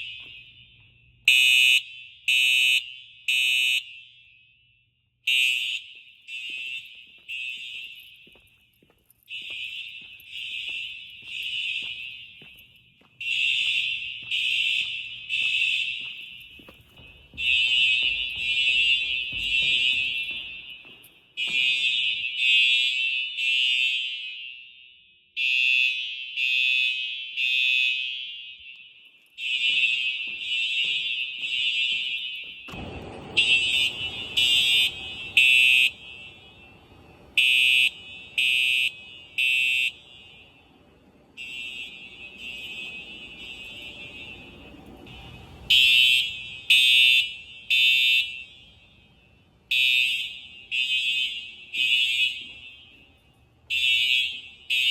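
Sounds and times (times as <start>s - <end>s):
fire alarm horns: 0.0s - 54.9s.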